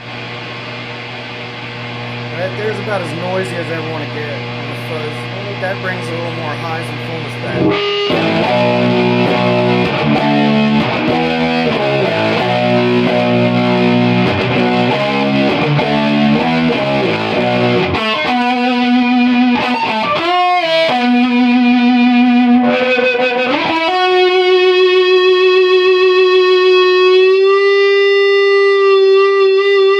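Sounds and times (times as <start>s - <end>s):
fuzz electric guitar: 0.0s - 29.9s.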